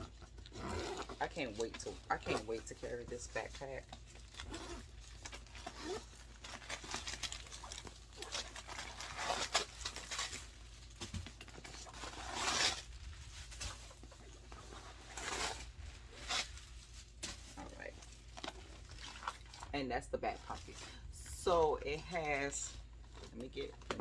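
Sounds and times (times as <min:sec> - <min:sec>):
packaging rustling and crinkling: 0:00.0 - 0:19.7, 0:22.0 - 0:24.0.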